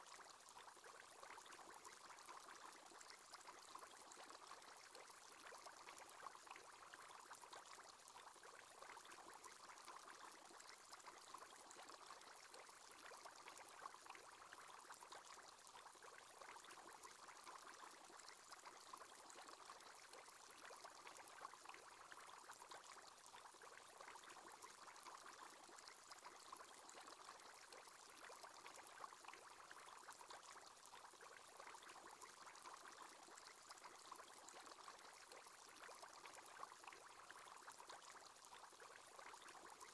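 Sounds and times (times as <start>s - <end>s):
aquarium water bubbling: 0.2s - 39.9s.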